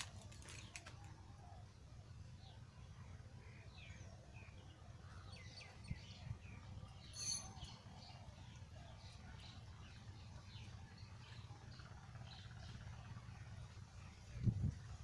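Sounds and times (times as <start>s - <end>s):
faint bird chirps: 0.0s - 15.0s
low background rumble: 0.0s - 15.0s.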